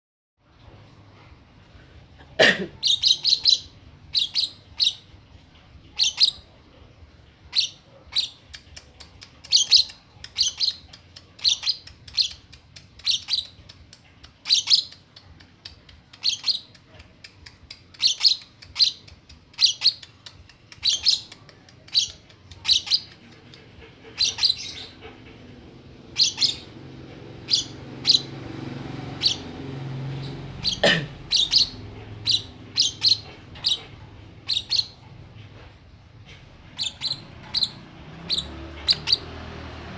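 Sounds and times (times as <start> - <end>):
low background hum: 0.4 - 39.9
bird chirping: 2.8 - 5.2, 5.8 - 6.6, 7.5 - 25.4, 26.0 - 39.9.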